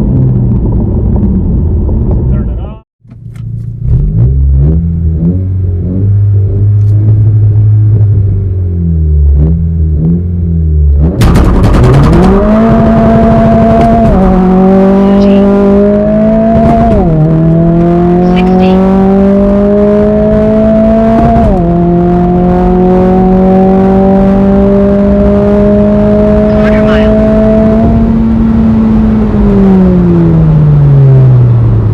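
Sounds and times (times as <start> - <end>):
car engine accelerating: 3.1 - 31.9.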